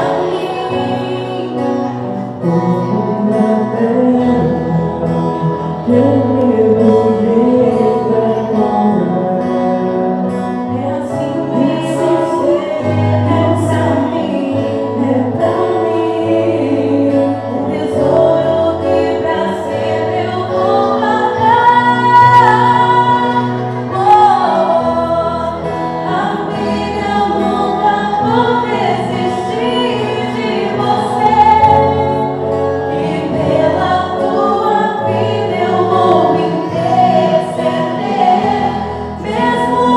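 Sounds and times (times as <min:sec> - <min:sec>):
instrumental accompaniment: 0:00.0 - 0:39.9
vocal group singing in harmony: 0:00.0 - 0:39.9.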